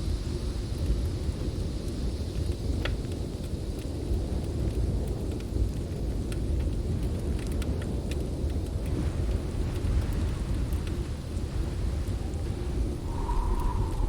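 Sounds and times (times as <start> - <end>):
storm wind rumbling: 0.0 - 14.0
wood fire crackling: 0.2 - 14.0.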